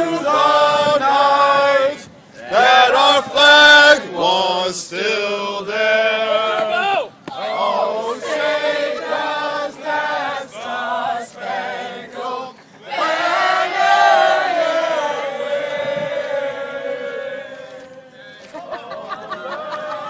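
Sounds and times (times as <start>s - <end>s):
male voices chanting: 0.0s - 20.0s.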